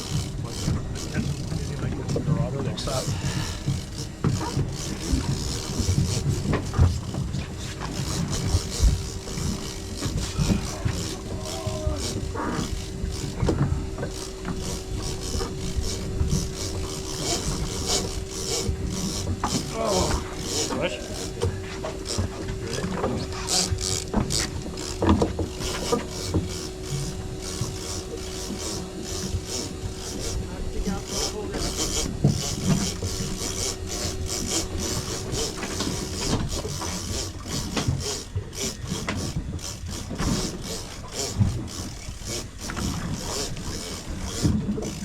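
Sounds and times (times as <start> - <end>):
boat engine humming: 0.0 - 45.0
fishing reel ratcheting clicks: 0.0 - 45.0.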